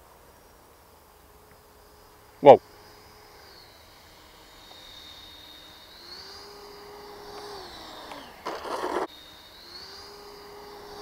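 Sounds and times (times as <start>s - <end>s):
electric ducted fans whining: 0.0s - 11.0s.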